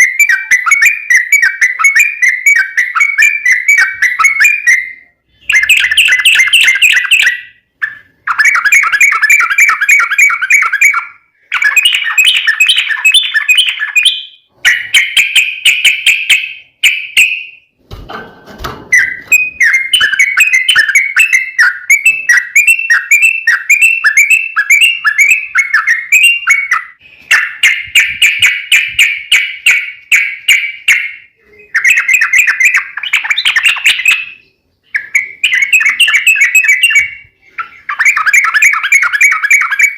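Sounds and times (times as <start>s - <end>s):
bird singing chattering phrases: 0.0s - 17.5s, 18.9s - 39.9s.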